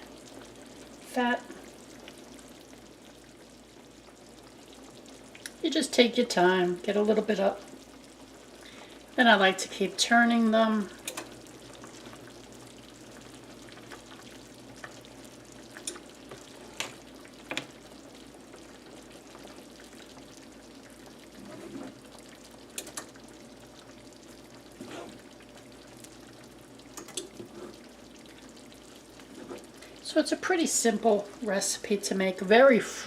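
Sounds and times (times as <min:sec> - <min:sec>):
meat sizzling in gravy: 0:00.0 - 0:33.0.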